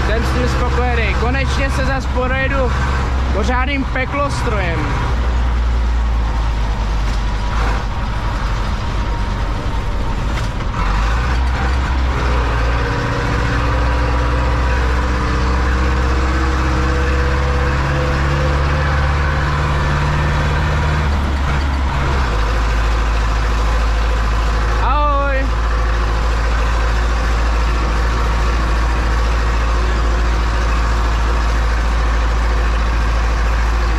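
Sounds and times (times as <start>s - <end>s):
diesel tractor engine under load: 0.0s - 33.9s.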